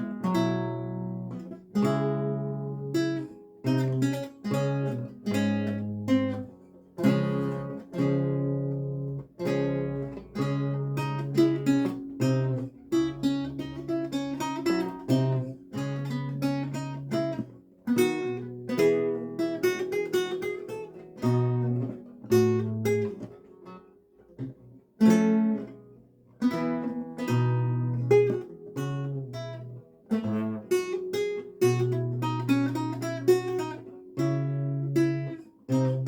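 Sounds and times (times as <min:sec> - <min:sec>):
lute playing: 0:00.0 - 0:36.0.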